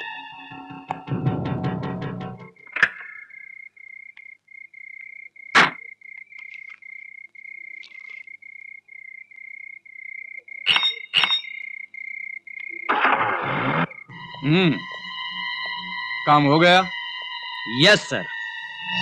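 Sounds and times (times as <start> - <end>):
crickets chirping: 2.4 - 19.0.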